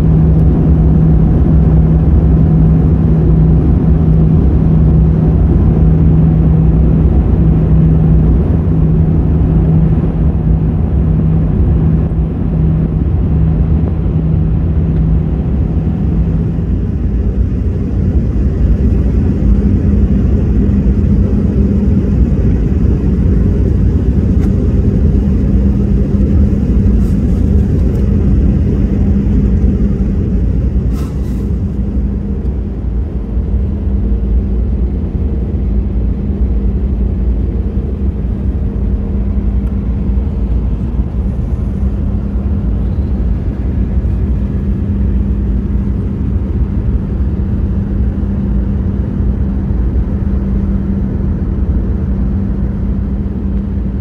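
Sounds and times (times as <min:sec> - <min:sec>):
aircraft engines rumbling: 0:00.0 - 0:54.0
steady hum: 0:00.0 - 0:54.0.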